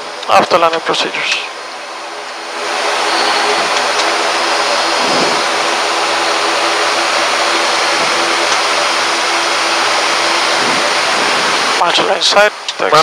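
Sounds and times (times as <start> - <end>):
turboprop engines running: 0.0 - 13.0.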